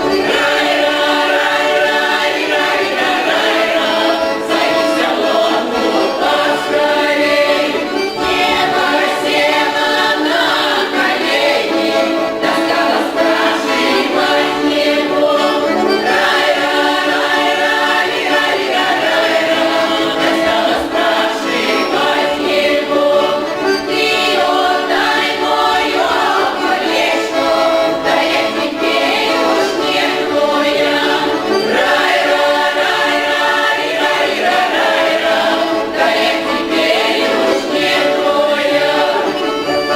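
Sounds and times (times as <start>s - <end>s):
choir singing folk song: 0.0s - 39.9s.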